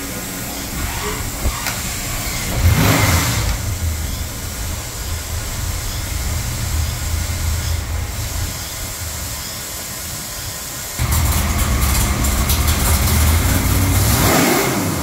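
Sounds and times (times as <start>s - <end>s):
engine revving and idling: 0.8s - 9.2s, 11.0s - 15.0s.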